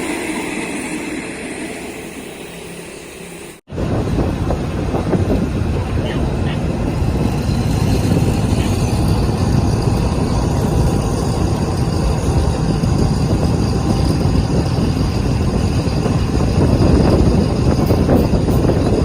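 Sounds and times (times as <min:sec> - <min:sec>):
diesel train rumbling past: 0:00.0 - 0:19.0.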